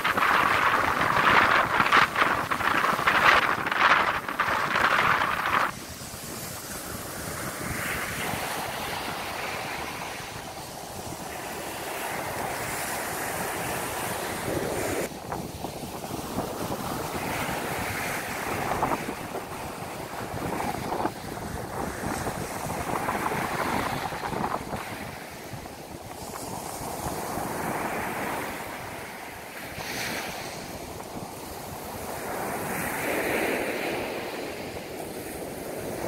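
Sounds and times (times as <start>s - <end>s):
small waves washing onto beach: 0.0s - 36.0s
wind rumbling on microphone: 0.0s - 36.0s.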